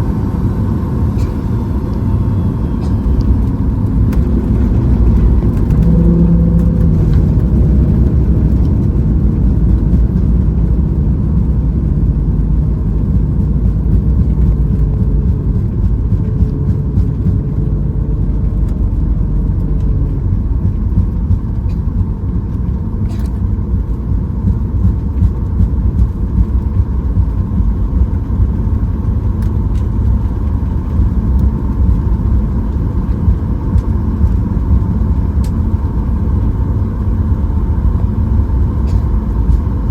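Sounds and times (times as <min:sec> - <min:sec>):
airplane cabin rumble: 0:00.0 - 0:39.9
faint engine tones: 0:00.0 - 0:39.9.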